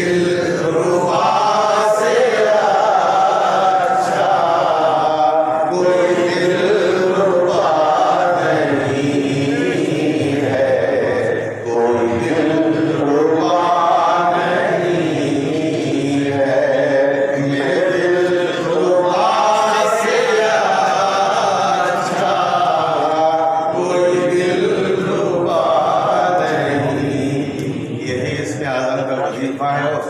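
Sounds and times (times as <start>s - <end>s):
men chanting together: 0.0s - 30.0s.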